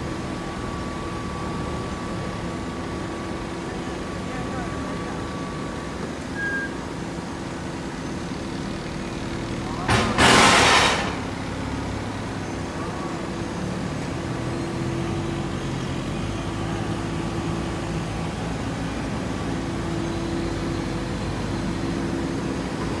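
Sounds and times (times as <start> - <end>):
industrial machinery humming: 0.0 - 23.0.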